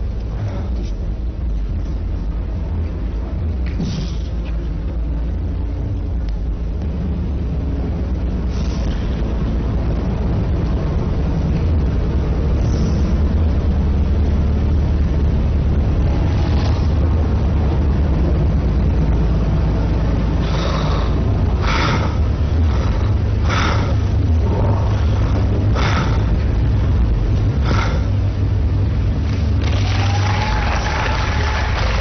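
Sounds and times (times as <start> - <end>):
low rumbling drone: 0.0 - 32.0.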